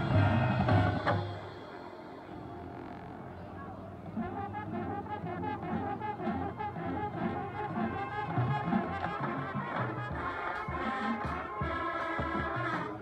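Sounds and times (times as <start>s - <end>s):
marching band playing: 0.0s - 3.2s, 4.0s - 13.0s
trombones and trumpets holding notes: 0.0s - 13.0s.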